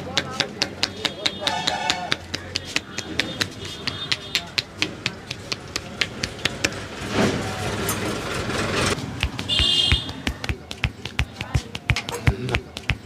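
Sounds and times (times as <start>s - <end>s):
hands slapping body: 0.1s - 7.0s, 9.1s - 13.0s.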